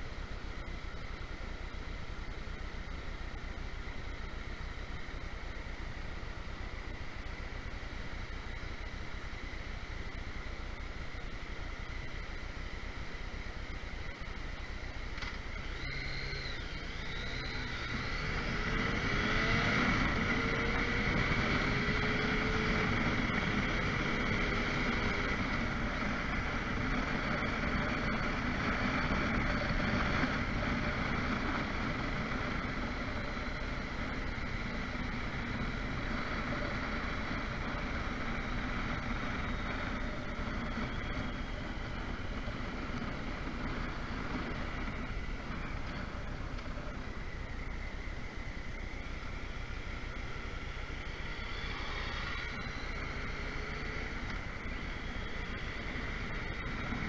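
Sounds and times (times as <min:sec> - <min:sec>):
wind and road noise: 0:00.0 - 0:57.0
motorcycle engine: 0:00.7 - 0:57.0.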